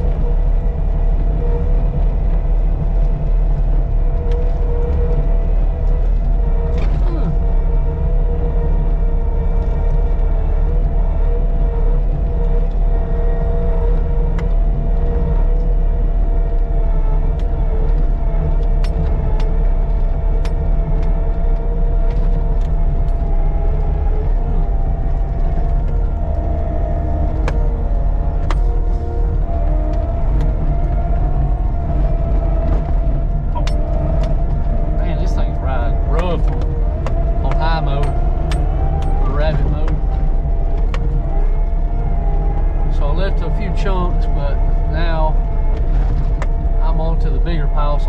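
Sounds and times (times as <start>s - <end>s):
constant whine: 0.0s - 48.0s
deep engine rumble: 0.0s - 48.0s.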